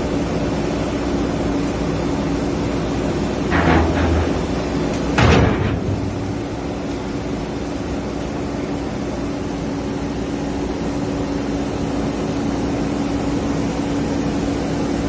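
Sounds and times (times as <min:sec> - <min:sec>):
diesel excavator engine running: 0:00.0 - 0:15.0.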